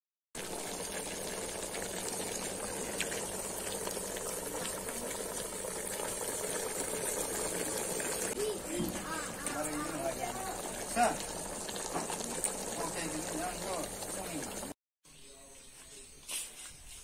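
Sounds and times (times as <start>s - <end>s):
pot boiling and bubbling: 0.4s - 14.8s.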